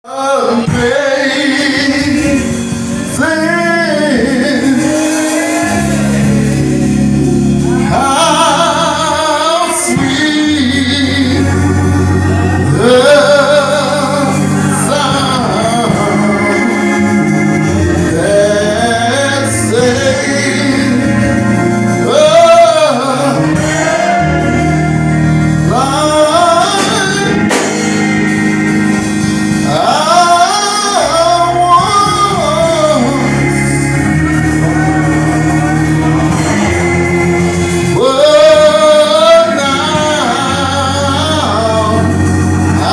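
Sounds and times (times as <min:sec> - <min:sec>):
gospel choir singing: 0:00.0 - 0:42.9
sustained organ chords: 0:00.1 - 0:42.9.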